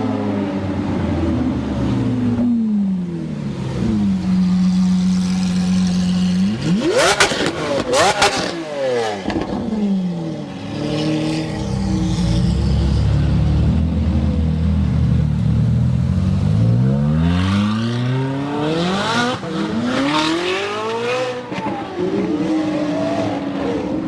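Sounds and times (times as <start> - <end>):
sports car engine accelerating: 0.0 - 24.0.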